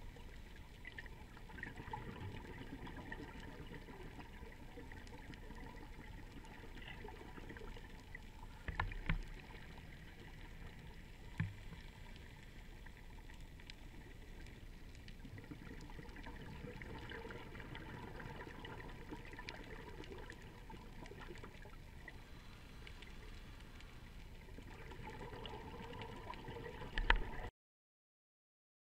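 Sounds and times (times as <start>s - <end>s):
muffled underwater hiss: 0.0s - 27.5s.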